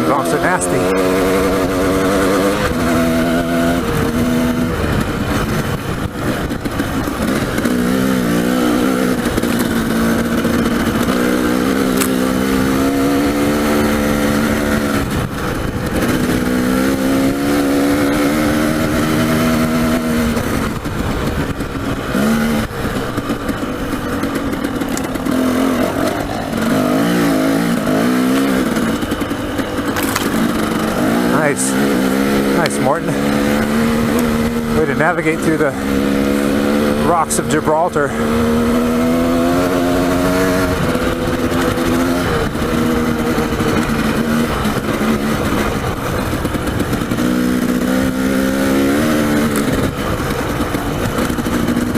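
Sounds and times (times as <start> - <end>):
dirt bike engine revving: 0.0 - 51.9
steady rush of noise: 0.0 - 51.9.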